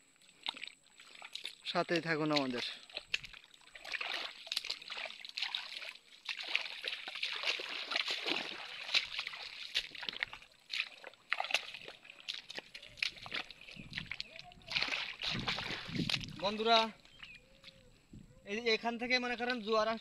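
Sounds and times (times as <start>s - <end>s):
shallow water sloshing and splashing: 0.0s - 18.4s.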